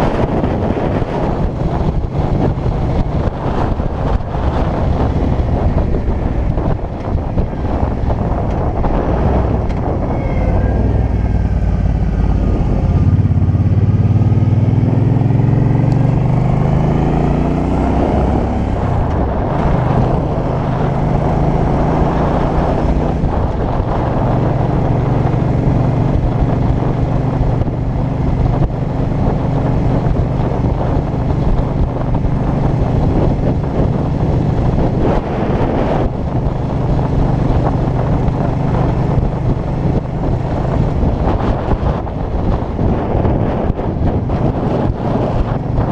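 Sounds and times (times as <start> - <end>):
motorcycle engine accelerating: 0.0 - 45.9
wind rushing over helmet: 0.0 - 45.9.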